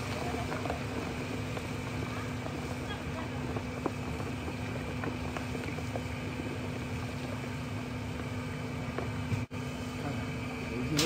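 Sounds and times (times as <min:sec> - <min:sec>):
blower fan drone: 0:00.0 - 0:11.0
stock boiling in woks: 0:00.0 - 0:11.0.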